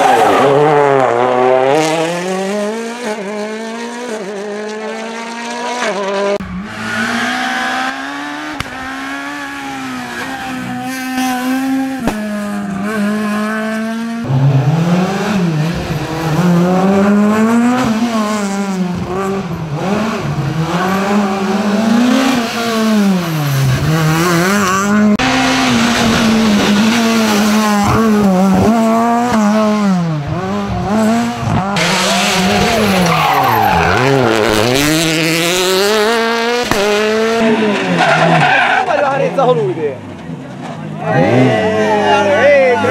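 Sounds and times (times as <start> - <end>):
rally car engines revving: 0.0 - 42.9.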